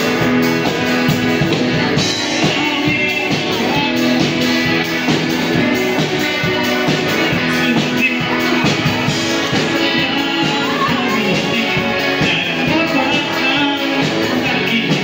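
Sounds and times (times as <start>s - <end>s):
live rock band playing: 0.0s - 15.0s
person singing: 1.4s - 15.0s.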